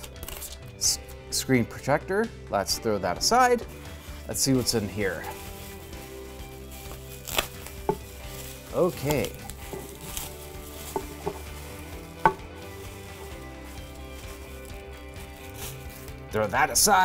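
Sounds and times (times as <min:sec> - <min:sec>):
bubble wrap bag crinkling: 0:00.0 - 0:00.7, 0:03.6 - 0:17.0.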